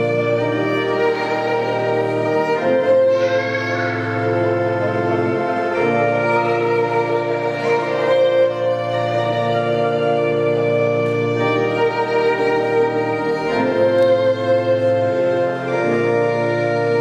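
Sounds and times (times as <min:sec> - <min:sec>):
organ playing held chords: 0:00.0 - 0:17.0.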